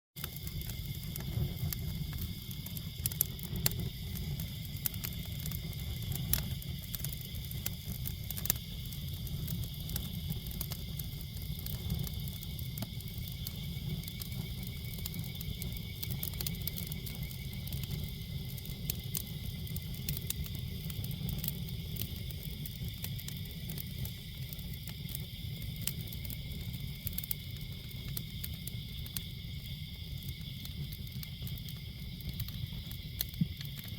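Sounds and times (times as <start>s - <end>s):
campfire crackling: 0.2s - 33.9s.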